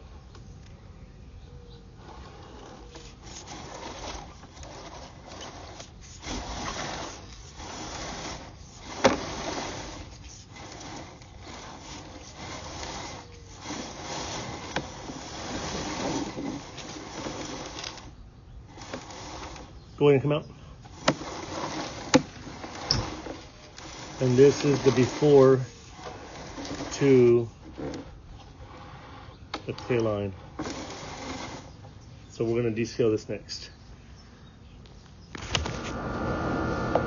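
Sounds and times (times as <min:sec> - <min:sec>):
scraping inside a pipe: 0:02.0 - 0:32.4.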